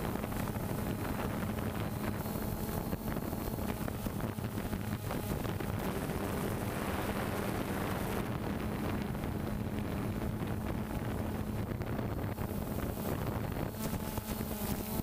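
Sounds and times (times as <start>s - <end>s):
drone rotors humming: 0.0s - 15.0s.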